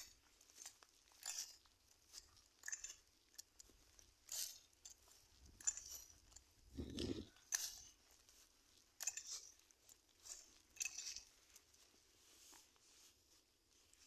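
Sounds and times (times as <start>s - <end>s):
footsteps on dry grass and leaves: 0.0s - 14.0s.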